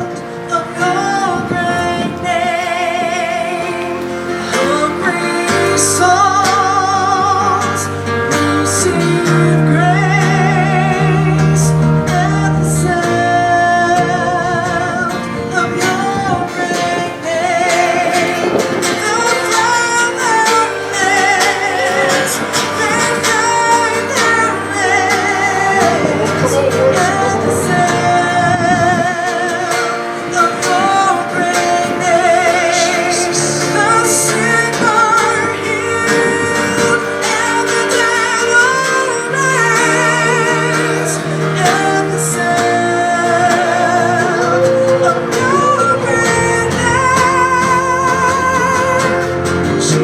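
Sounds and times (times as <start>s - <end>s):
guitar: 0.0s - 50.0s
people singing with vibrato: 0.0s - 50.0s.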